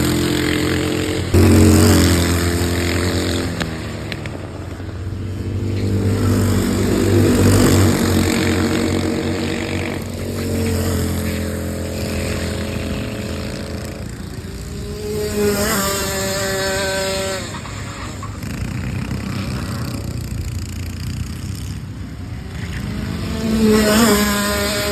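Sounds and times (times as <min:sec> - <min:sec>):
go-kart engines passing: 0:00.0 - 0:24.9.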